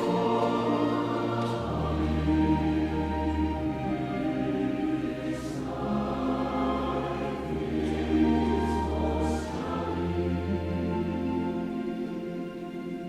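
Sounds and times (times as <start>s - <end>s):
chamber orchestra: 0.0s - 13.0s
mixed choir singing: 0.0s - 13.0s.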